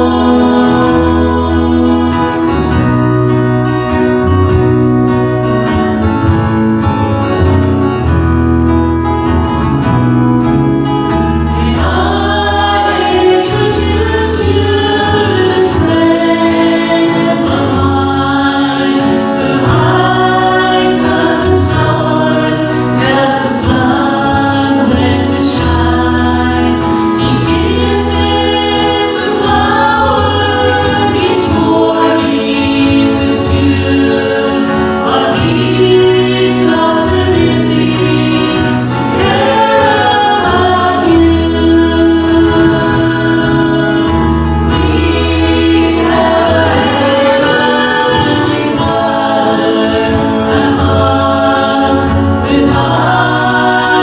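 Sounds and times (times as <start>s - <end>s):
group singing gospel: 0.0s - 54.0s
instrumental accompaniment: 0.0s - 54.0s
steady bass line: 0.0s - 54.0s.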